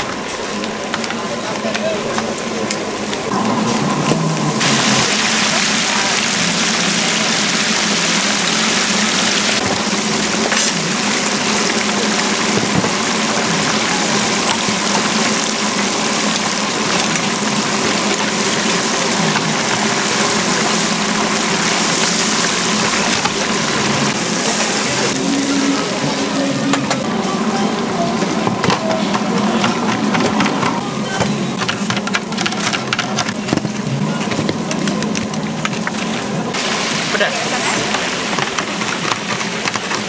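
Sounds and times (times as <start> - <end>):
machine humming: 0.0 - 40.0.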